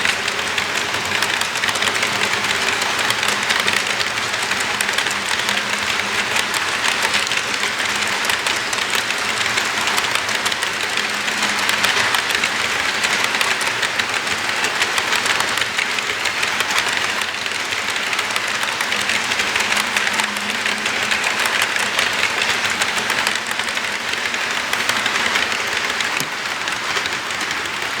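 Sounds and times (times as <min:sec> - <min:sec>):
fast fine clicking: 0:00.0 - 0:28.0
model train motor rushing: 0:00.0 - 0:28.0.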